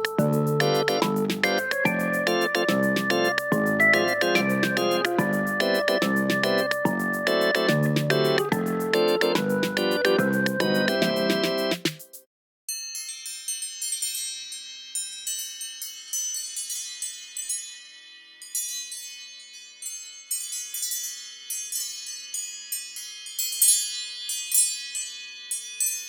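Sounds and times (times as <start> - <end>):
wind-chime ringtone: 0.0 - 11.7, 12.7 - 26.0.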